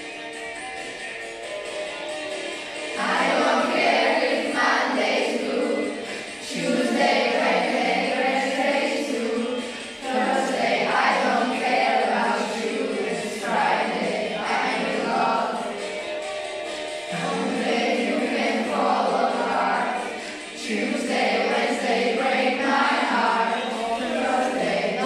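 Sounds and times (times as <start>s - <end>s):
instrumental backing track: 0.0s - 22.0s
children singing: 2.9s - 25.0s.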